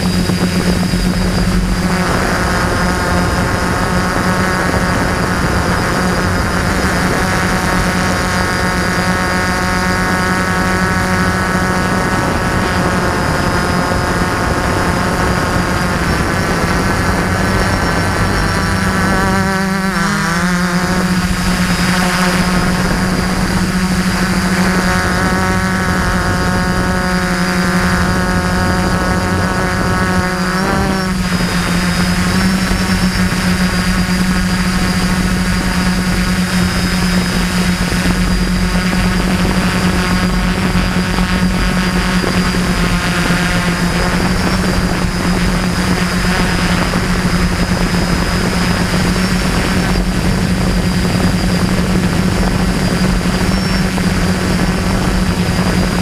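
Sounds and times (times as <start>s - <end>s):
quadcopter motors buzzing: 0.0s - 56.0s.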